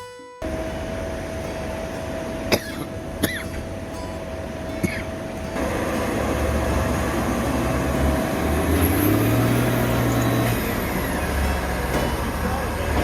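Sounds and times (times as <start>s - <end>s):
heavy machinery diesel engine: 0.4s - 13.0s.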